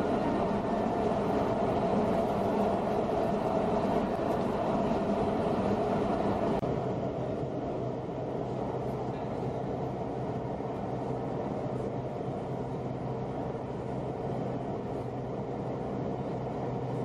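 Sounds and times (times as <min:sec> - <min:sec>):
moving vehicle rumbling: 0:00.0 - 0:17.0.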